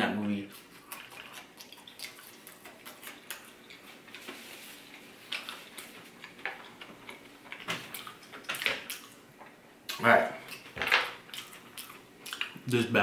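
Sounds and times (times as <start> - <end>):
chewing with lip smacking: 0.5 - 12.7.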